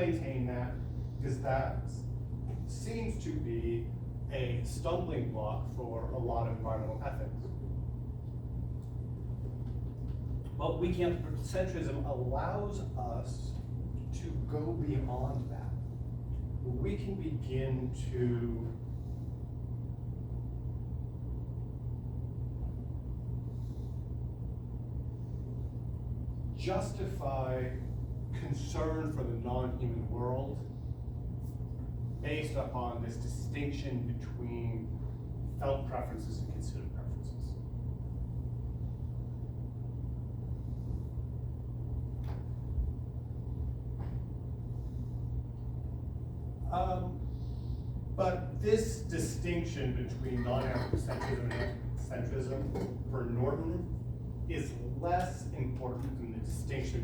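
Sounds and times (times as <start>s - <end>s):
low hum with rumble: 0.0s - 57.0s.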